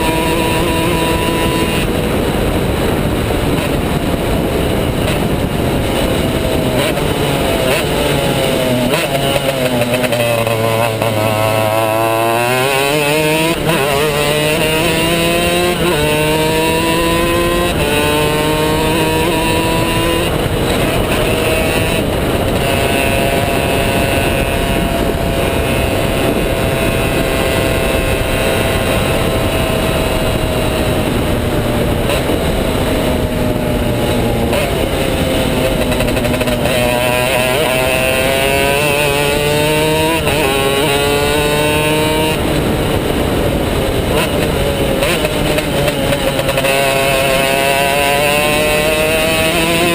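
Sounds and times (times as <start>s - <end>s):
kart engine racing: 0.0s - 49.9s.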